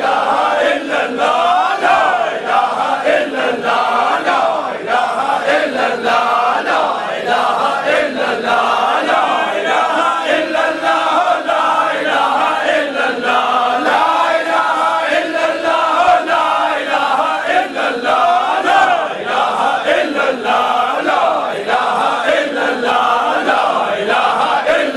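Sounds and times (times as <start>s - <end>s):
men chanting together: 0.0s - 24.9s.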